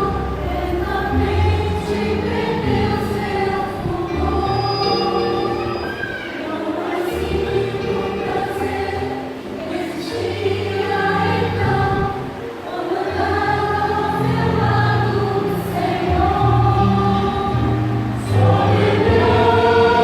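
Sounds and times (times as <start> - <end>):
church choir singing: 0.0 - 20.0.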